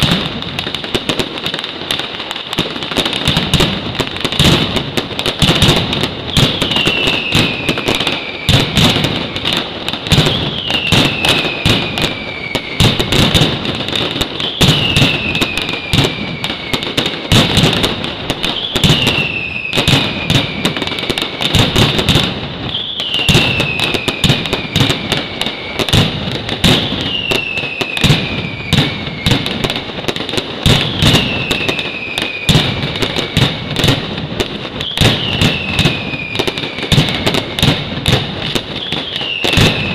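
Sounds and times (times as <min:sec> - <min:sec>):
firecrackers banging: 0:00.0 - 0:39.9.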